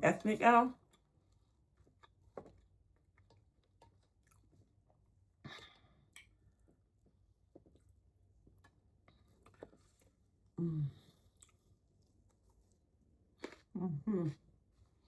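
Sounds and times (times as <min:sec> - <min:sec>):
faint chewing: 0:00.8 - 0:15.0.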